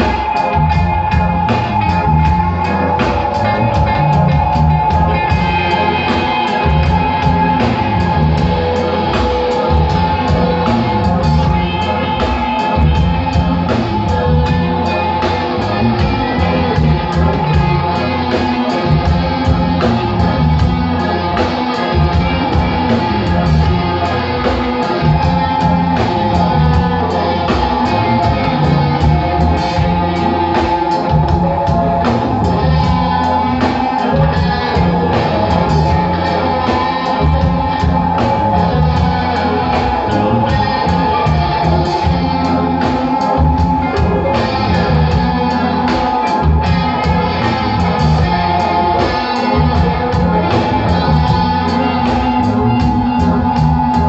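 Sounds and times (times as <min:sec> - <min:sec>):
electric guitars: 0:00.0 - 0:54.0
live rock band playing: 0:00.0 - 0:54.0
steady drumbeat: 0:00.0 - 0:54.0.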